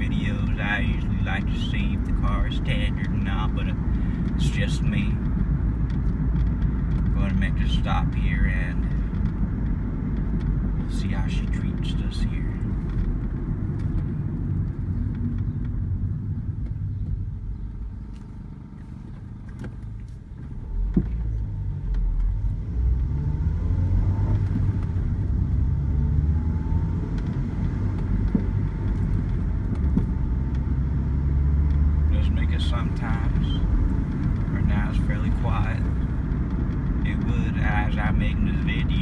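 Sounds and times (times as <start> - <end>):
car engine in cabin: 0.0 - 39.0
road noise: 0.0 - 39.0.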